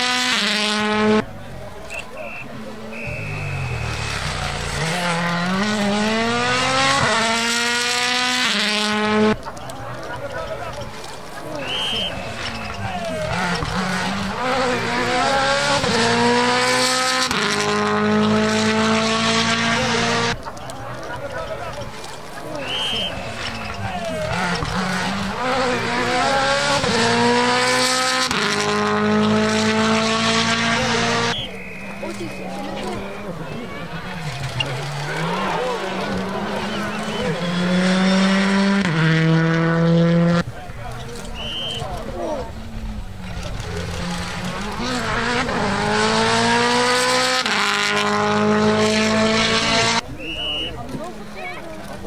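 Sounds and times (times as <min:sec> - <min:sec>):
car engine accelerating hard: 0:00.0 - 0:50.1.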